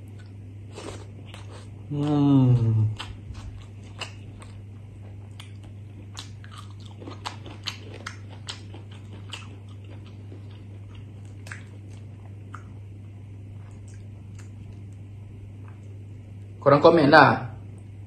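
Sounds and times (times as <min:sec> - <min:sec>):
man chewing: 0:00.0 - 0:16.0
low steady hum: 0:00.0 - 0:18.0.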